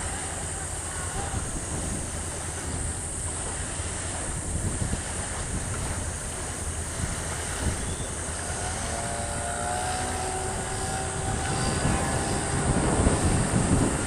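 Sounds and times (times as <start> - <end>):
faint whine: 0.0 - 14.0
motor droning: 0.0 - 14.0.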